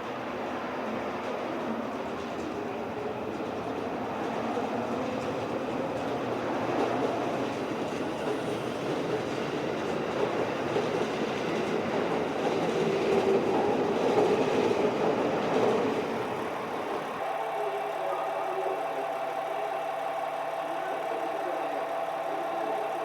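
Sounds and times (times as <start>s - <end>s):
train wheels running on rails: 0.0s - 23.0s.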